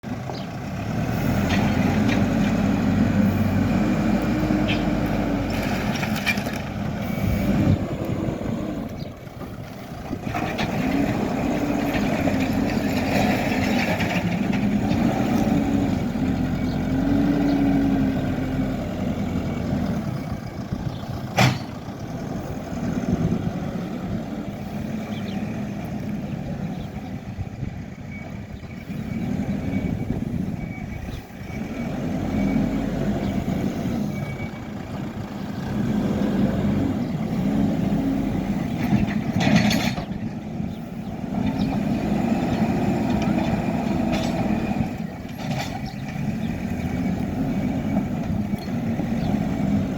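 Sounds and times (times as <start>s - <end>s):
diesel engine revving under load: 0.0s - 49.9s.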